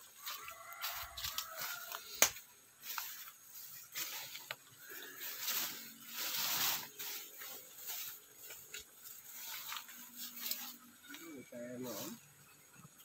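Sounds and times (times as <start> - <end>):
footsteps rustling through grass: 0.0 - 10.9.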